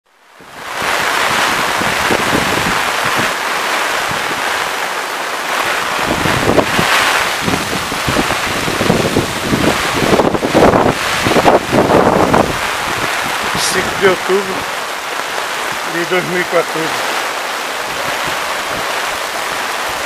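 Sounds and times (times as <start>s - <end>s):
heavy rain pouring: 0.1s - 20.0s
wind buffeting microphone: 0.4s - 20.0s.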